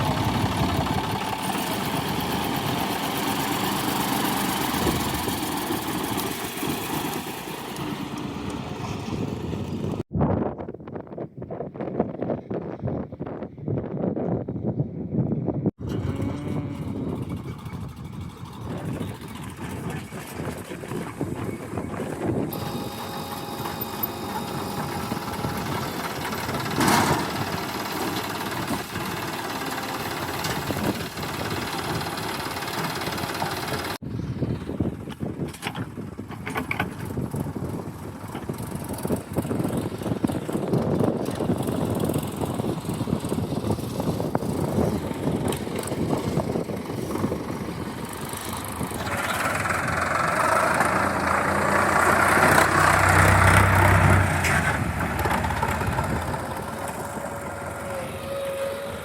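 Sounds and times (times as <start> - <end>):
diesel engine running: 0.0 - 10.0, 15.8 - 35.4, 36.9 - 59.0.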